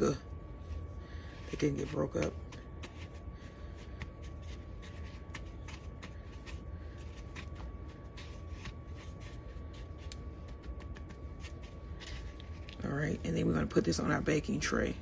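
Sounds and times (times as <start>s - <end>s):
dough rolling in sugar: 0.0s - 15.0s
low hum: 0.0s - 15.0s.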